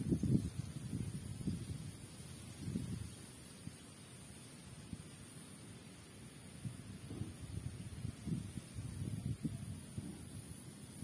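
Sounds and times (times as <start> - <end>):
high-pitched hiss: 0.0 - 11.0
leaves rustling in wind: 0.0 - 11.0.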